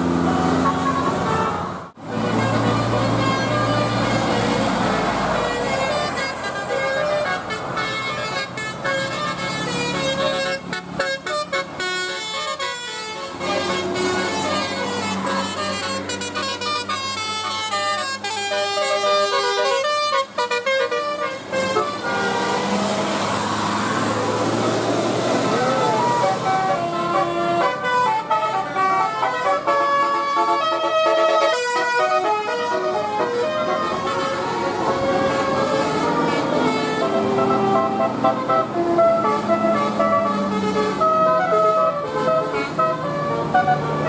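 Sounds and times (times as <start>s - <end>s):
bus horn melody: 0.0s - 44.0s
traffic noise: 0.0s - 44.0s.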